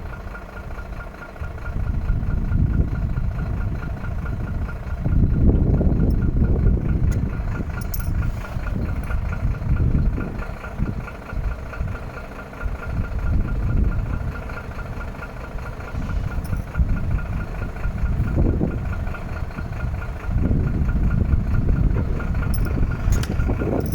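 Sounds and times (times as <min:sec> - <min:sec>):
diesel truck engine rumbling: 0:00.0 - 0:23.9.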